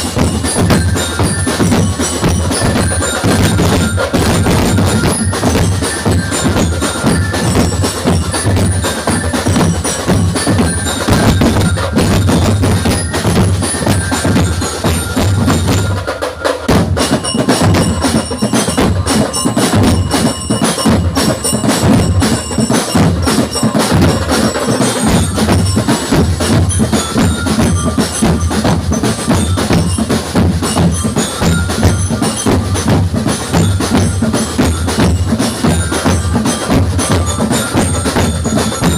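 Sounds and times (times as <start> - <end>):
bell-like mallet melody: 0.0 - 38.9
steady drum beat: 0.0 - 38.9.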